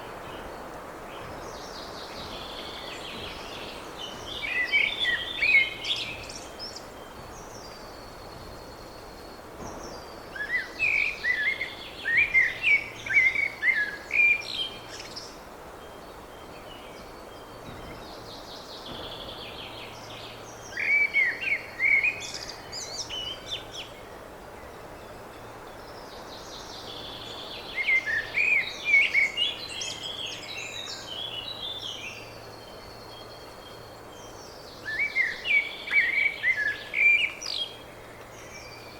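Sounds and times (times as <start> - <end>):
songbird singing chirpy notes: 0.0 - 38.9
steady background hiss: 0.0 - 38.9.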